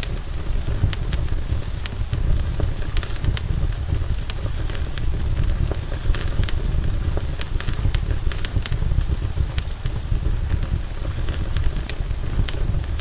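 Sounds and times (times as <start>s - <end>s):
crackles and pops of burning wood: 0.0s - 13.0s
low rumble of fire: 0.0s - 13.0s.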